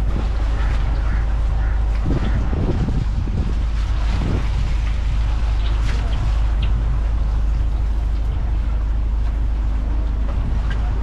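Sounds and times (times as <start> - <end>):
low harbour rumble: 0.0 - 11.0.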